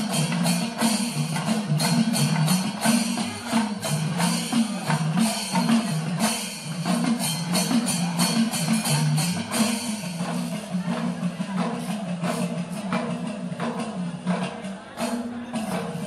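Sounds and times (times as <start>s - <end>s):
metallic cymbal strikes: 0.0s - 16.0s.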